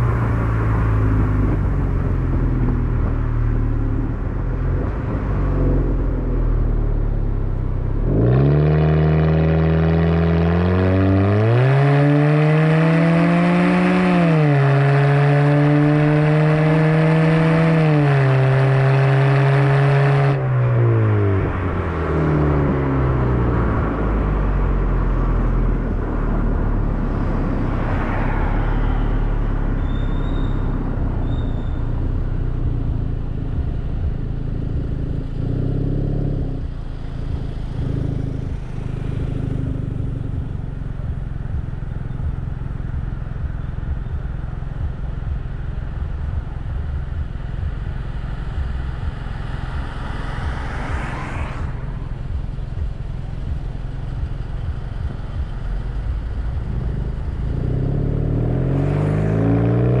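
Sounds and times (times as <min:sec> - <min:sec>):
car engine and exhaust running: 0:00.0 - 1:00.0
road and tyre noise: 0:00.0 - 1:00.0.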